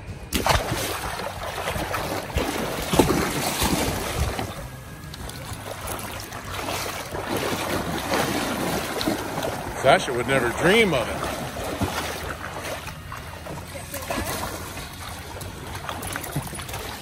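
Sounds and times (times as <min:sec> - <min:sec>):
dog splashing into water: 0:00.3 - 0:17.0
dog wading through water: 0:00.3 - 0:17.0.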